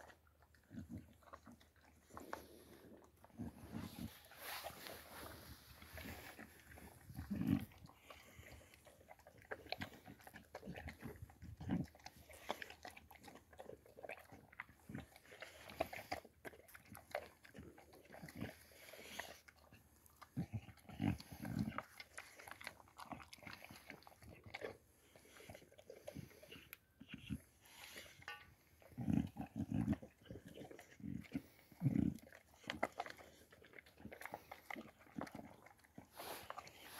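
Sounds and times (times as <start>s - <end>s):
dog crunching dry kibble: 0.0s - 36.9s.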